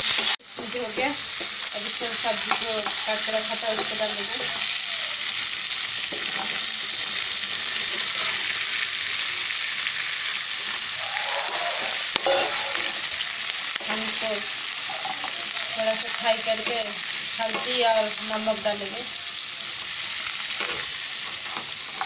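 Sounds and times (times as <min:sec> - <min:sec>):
oil sizzling in a wok: 0:00.0 - 0:22.0.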